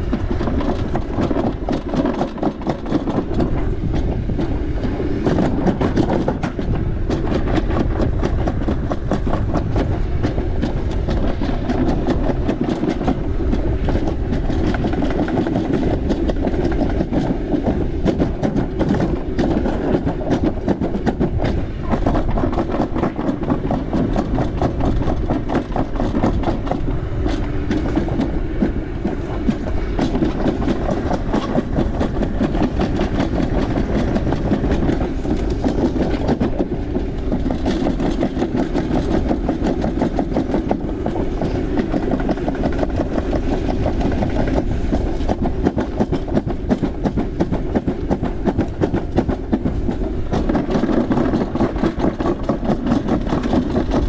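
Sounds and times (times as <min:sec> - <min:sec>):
coaster sled rattling on track: 0:00.0 - 0:54.0.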